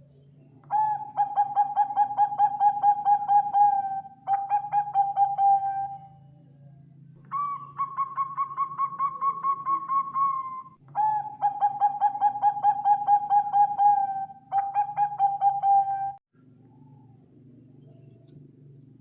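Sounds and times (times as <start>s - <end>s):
dove cooing: 0.6s - 6.3s, 7.2s - 16.9s.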